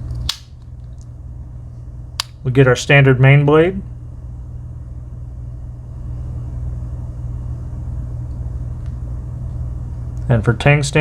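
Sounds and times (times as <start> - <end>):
low hum and rumble: 0.0 - 11.0.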